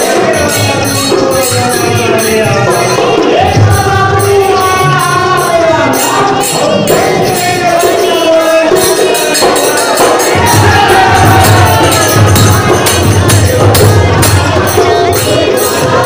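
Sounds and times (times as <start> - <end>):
hand drum beat: 0.0 - 16.0
jingling cymbal-like strokes: 0.0 - 16.0.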